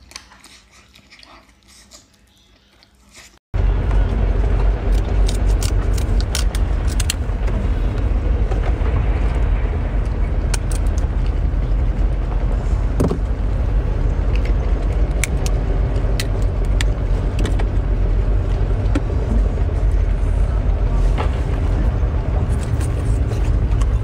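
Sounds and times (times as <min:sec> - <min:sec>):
wind buffeting microphone: 0:03.6 - 0:24.0.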